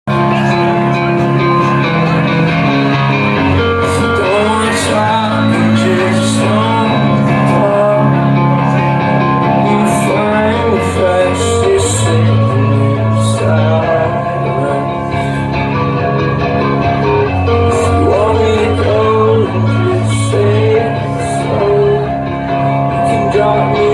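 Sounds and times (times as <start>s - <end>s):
electric guitar: 0.0s - 23.9s
live rock band playing: 0.1s - 23.9s.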